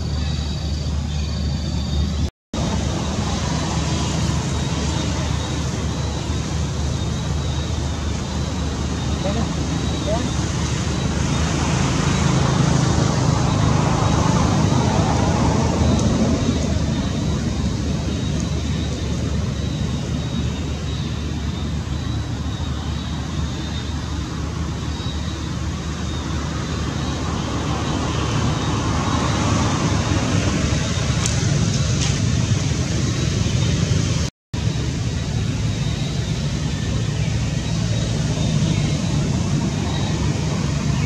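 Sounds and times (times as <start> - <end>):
low outdoor rumble: 0.0 - 41.0.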